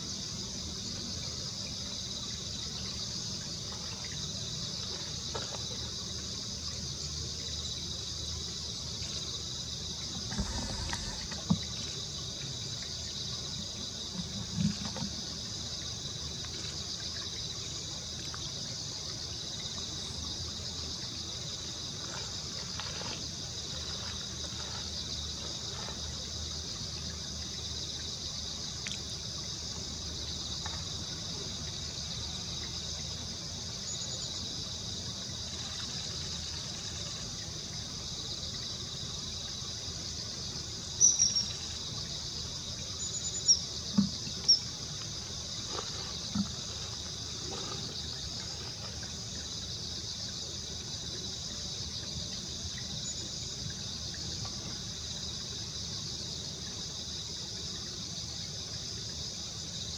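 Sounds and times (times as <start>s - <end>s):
insects chirping: 0.0s - 59.9s
trickling water: 0.0s - 59.9s.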